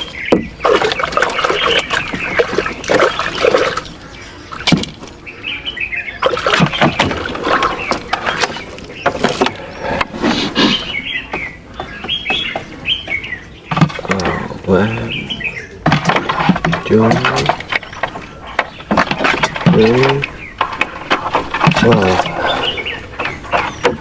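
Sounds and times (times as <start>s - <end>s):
birds chirping: 0.0s - 24.0s
water splashing and sloshing: 0.0s - 24.0s.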